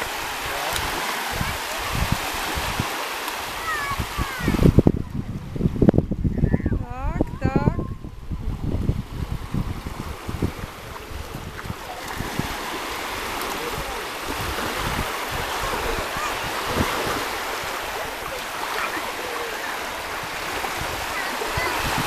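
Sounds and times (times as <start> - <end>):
small waves lapping: 0.0 - 22.0
wind rumbling on microphone: 0.0 - 22.0.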